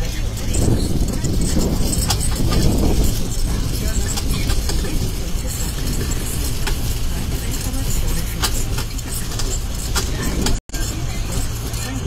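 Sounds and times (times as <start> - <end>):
engine rumble: 0.0 - 12.0
road noise: 0.0 - 12.0.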